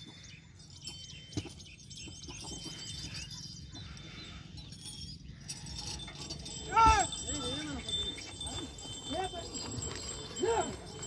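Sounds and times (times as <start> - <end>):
small birds twittering: 0.0 - 10.4.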